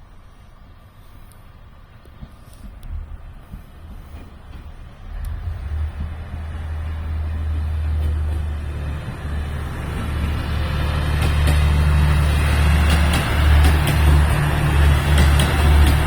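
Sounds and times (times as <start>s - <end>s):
diesel train engine hum: 0.0s - 16.0s.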